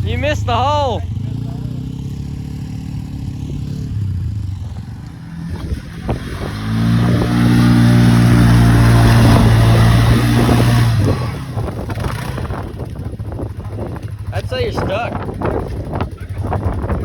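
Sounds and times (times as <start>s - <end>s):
quad engine revving hard: 0.0s - 17.0s
wheels spinning in mud: 1.2s - 17.0s.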